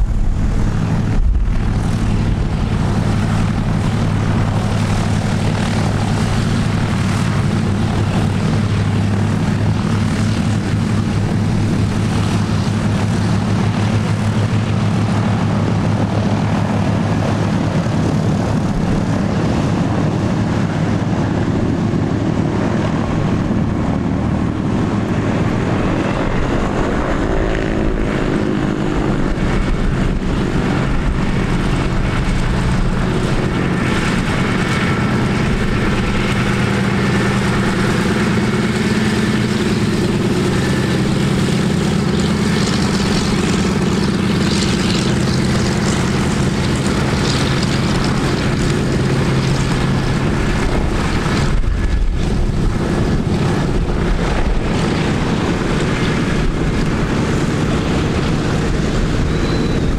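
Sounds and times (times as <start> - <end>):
propeller aircraft engines droning: 0.0 - 59.9.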